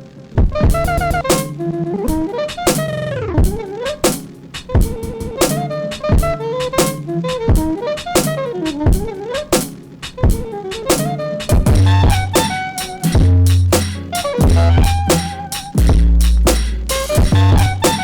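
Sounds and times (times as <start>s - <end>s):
sampled beat music: 0.4s - 18.0s.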